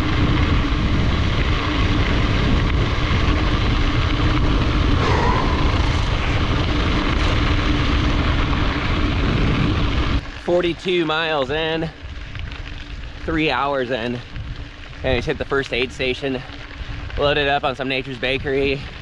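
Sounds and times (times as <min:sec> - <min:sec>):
wind rush and rumble: 0:00.0 - 0:19.0.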